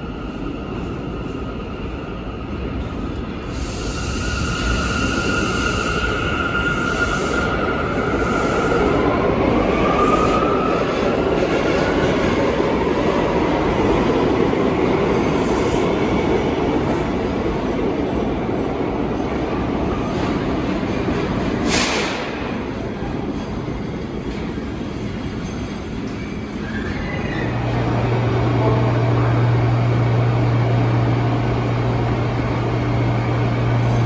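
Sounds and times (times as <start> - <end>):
subway train rumbling on rails: 0.0 - 34.0.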